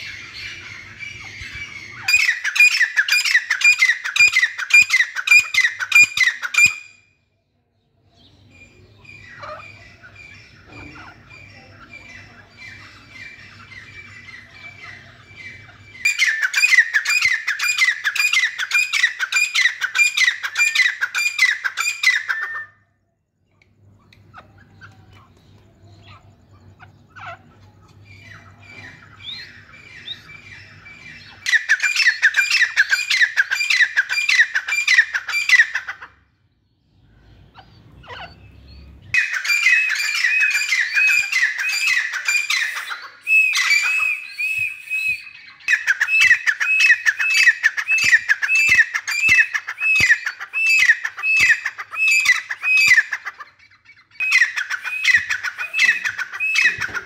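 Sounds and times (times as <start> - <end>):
bird calling shrill repeated notes: 0.0 - 7.2, 12.6 - 23.0, 26.0 - 36.1, 37.5 - 57.0.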